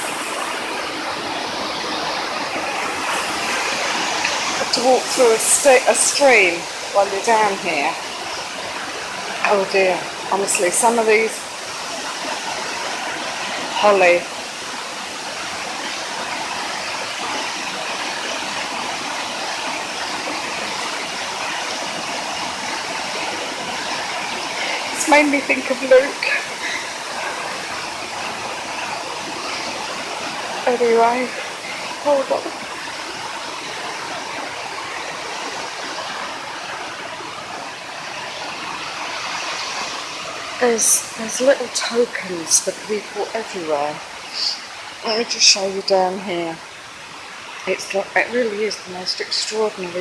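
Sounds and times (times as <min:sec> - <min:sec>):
stream running: 0:00.0 - 0:50.0
waterfall rushing: 0:00.0 - 0:50.0.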